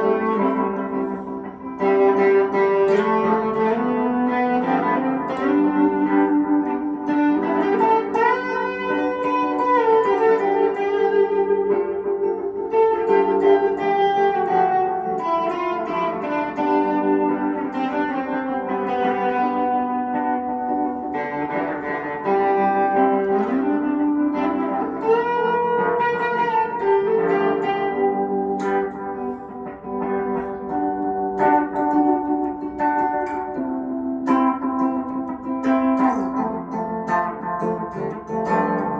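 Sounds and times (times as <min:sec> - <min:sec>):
electric guitar melody: 0:00.0 - 0:38.9.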